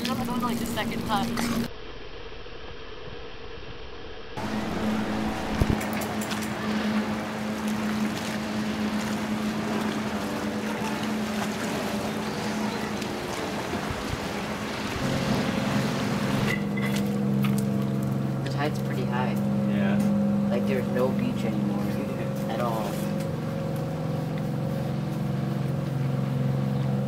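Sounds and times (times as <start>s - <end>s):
boat motor humming: 0.0s - 1.7s, 4.4s - 27.0s
water noise: 0.0s - 27.0s
wind: 0.0s - 27.0s.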